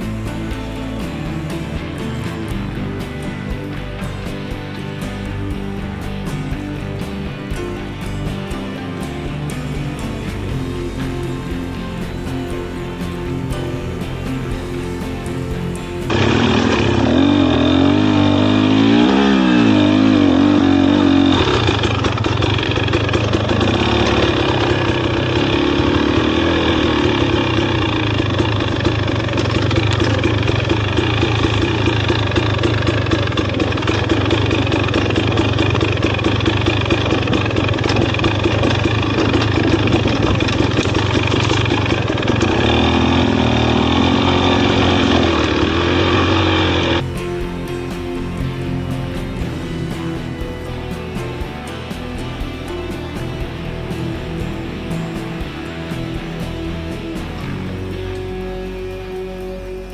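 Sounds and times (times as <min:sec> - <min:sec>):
dirt bike engine revving: 0:00.0 - 0:59.9
steady noisy rush: 0:00.0 - 0:59.9.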